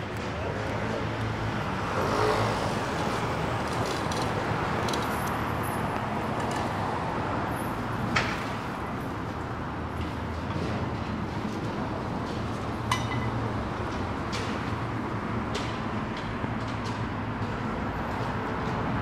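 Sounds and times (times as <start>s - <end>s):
passing cars and road noise: 0.0s - 19.0s.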